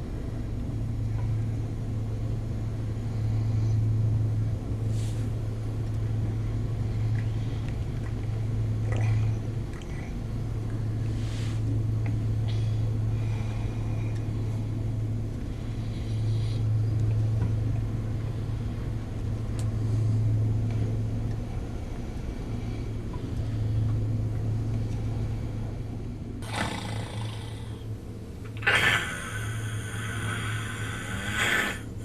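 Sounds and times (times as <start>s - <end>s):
low droning rumble: 0.0s - 32.0s.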